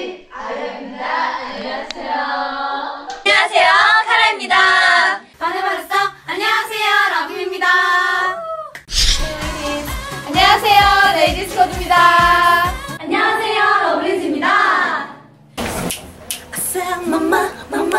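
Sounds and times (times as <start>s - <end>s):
young women chanting in unison: 0.0s - 8.4s, 9.2s - 15.3s.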